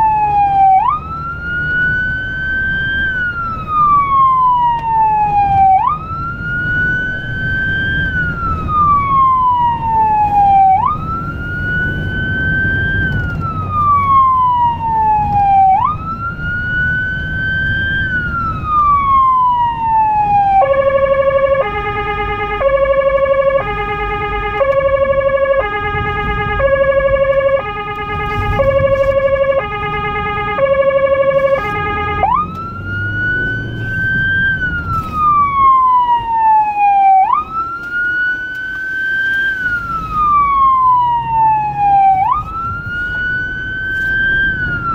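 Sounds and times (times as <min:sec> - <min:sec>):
electronic siren wailing: 0:00.0 - 0:44.9
engine and road rumble: 0:00.0 - 0:44.9.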